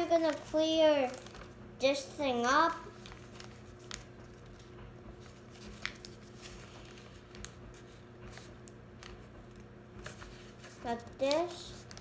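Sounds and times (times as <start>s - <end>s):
paper crackles: 0.0s - 1.6s, 2.3s - 12.0s
paper folding and rustling: 0.0s - 1.6s, 2.3s - 12.0s
low room hum: 0.0s - 12.0s.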